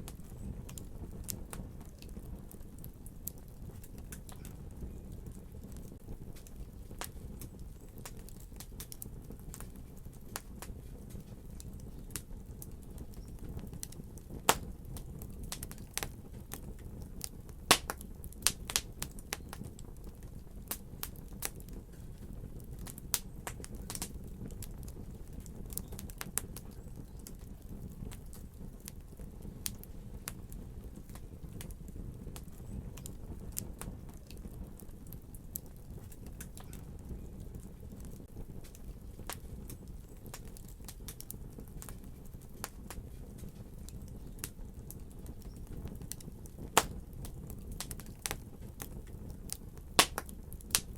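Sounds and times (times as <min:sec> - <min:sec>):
fire popping and snapping: 0:00.0 - 0:50.9
wood fire crackling: 0:00.0 - 0:50.9.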